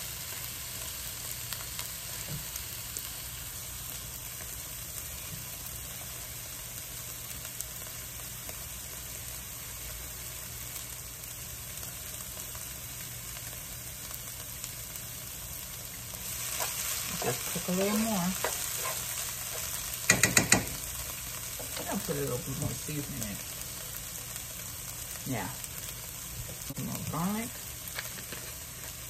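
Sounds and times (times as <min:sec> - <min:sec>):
food sizzling in a skillet: 0:00.0 - 0:29.0.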